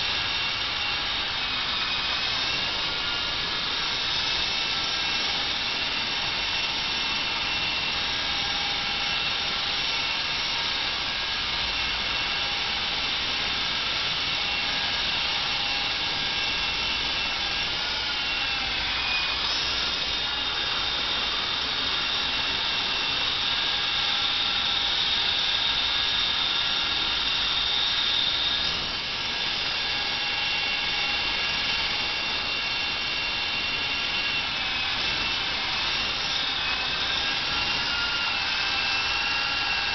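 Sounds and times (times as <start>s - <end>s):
rc helicopter rotor whine: 0.0s - 39.9s.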